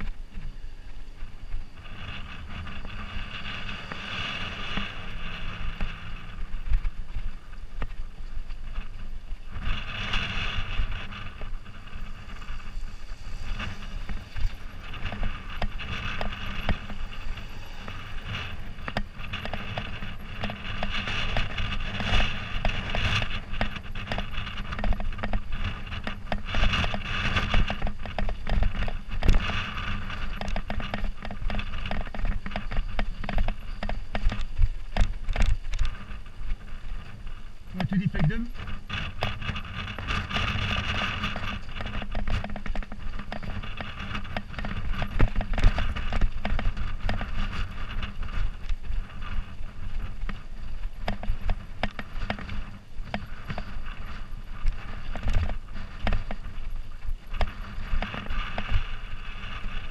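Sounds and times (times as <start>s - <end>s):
bicycle tyres rumbling on stones: 0.0s - 59.9s
bike rattling and knocking: 1.5s - 59.9s.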